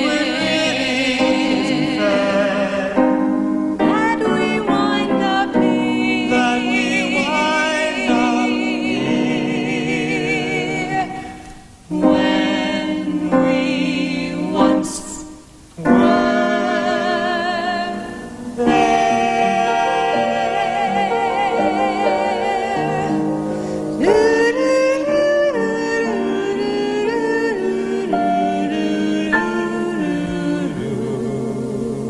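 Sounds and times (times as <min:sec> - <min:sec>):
piano accompaniment: 0:00.0 - 0:32.0
voices singing in harmony: 0:00.0 - 0:32.0.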